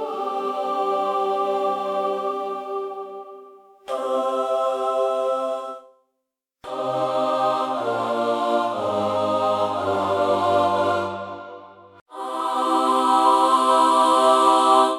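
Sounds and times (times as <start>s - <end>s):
choir singing sustained chords: 0.0s - 6.0s, 6.6s - 14.9s.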